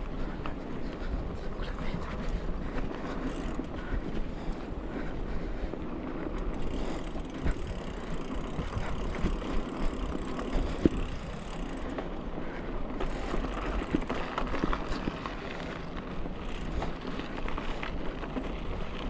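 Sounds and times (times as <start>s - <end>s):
bike rattling and knocking: 0.0s - 19.0s
bike tyres rumbling on dirt: 0.0s - 19.0s.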